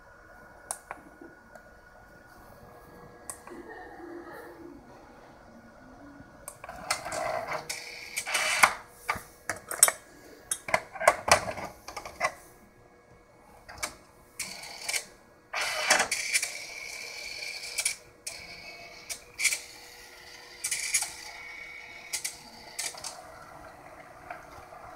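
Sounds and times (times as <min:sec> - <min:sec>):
faint hum: 0:00.0 - 0:24.9.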